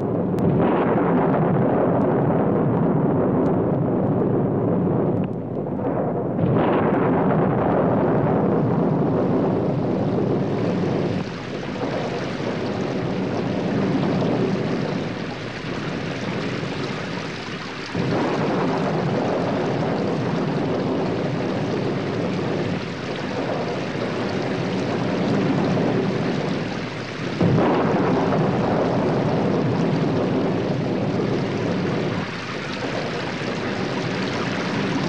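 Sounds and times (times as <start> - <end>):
rain falling: 0.0 - 5.8, 6.5 - 35.0
rolling thunder rumbles: 0.0 - 35.0.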